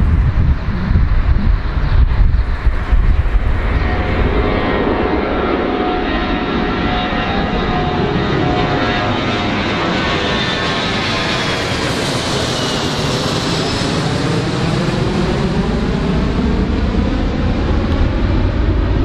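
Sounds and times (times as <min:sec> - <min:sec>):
aircraft passing by: 0:00.0 - 0:19.0
airplane engines rumbling: 0:00.0 - 0:19.0.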